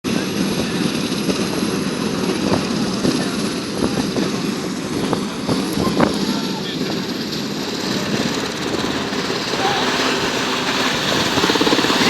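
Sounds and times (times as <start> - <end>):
helicopter engines: 0.0 - 12.0
helicopter rotor flutter: 0.1 - 12.0.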